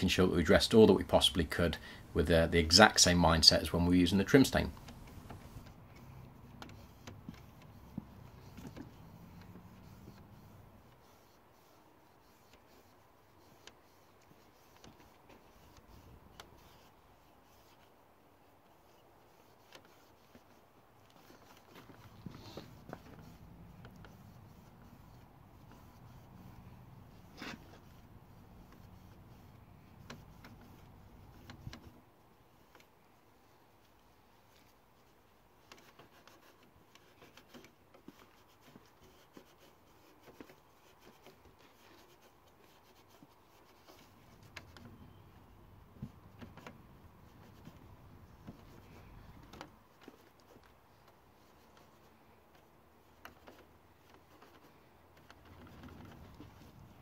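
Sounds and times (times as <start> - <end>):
cloth rubbing on plastic: 0.0 - 57.0
small irregular clicks: 4.6 - 32.0, 32.6 - 33.0, 33.8 - 57.0.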